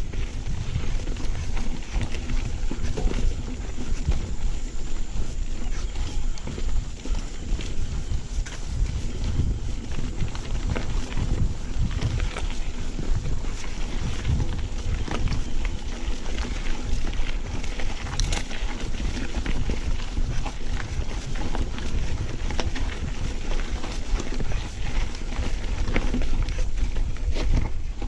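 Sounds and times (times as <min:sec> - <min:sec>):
bike rattling over bumps: 0:00.0 - 0:28.0
wind and ground rumble: 0:00.0 - 0:28.0.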